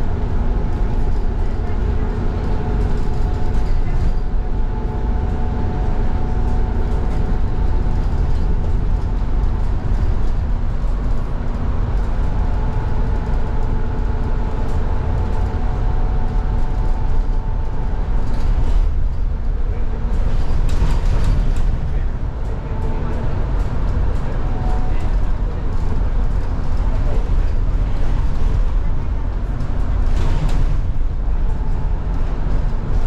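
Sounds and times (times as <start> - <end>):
tyres rumbling on road: 0.0 - 33.0.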